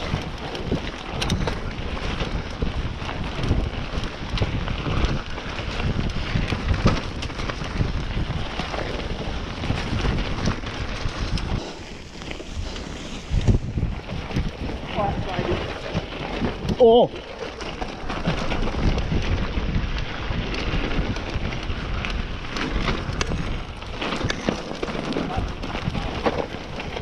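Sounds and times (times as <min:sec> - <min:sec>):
bike clattering: 0:00.0 - 0:27.0
tyres rolling over rough trail: 0:00.0 - 0:27.0
wind buffeting microphone: 0:00.0 - 0:27.0.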